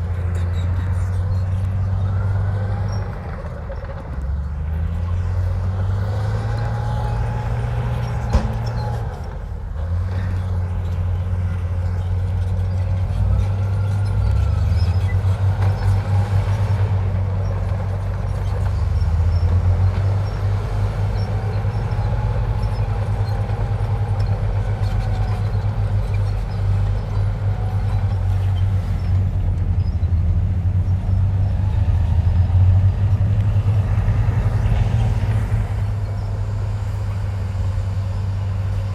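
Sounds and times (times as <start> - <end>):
heavy diesel engine humming: 0.0 - 38.9.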